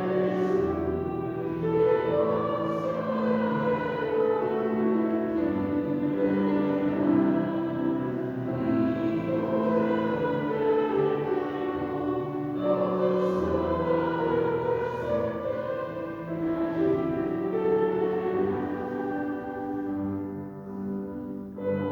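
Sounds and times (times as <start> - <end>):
choir singing: 0.0 - 21.9.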